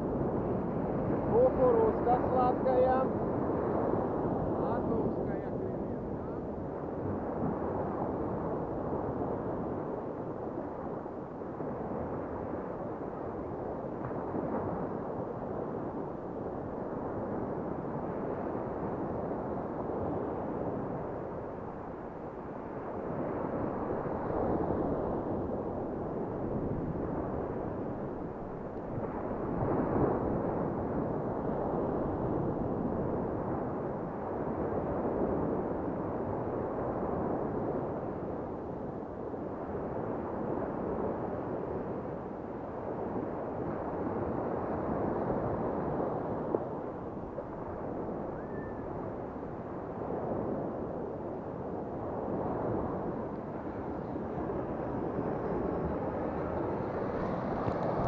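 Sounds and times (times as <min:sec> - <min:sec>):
sea surf breaking on shore: 0:00.0 - 0:09.9, 0:11.6 - 0:38.8, 0:39.6 - 0:58.0.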